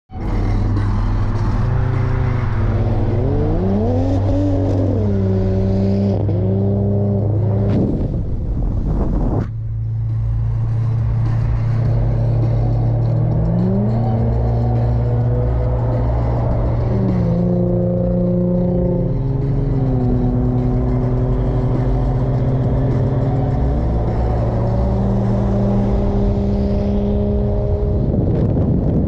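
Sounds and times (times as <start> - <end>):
car engine accelerating: 0.1 - 29.0
road noise drone: 0.1 - 29.0
rush of noise: 0.1 - 29.0.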